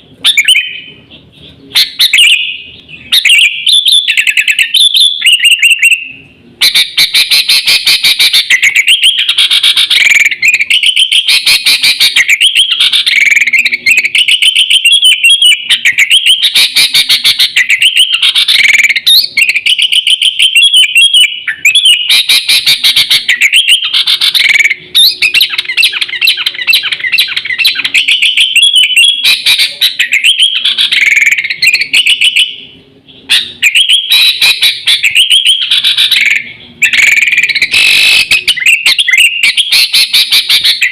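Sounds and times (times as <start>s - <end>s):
bulbul singing chattering phrases: 0.0s - 40.9s.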